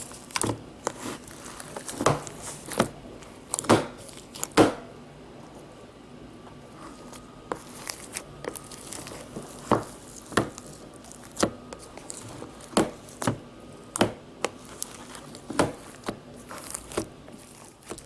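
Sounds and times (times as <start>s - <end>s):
foam slime crackling: 0.0s - 4.6s, 6.8s - 18.0s.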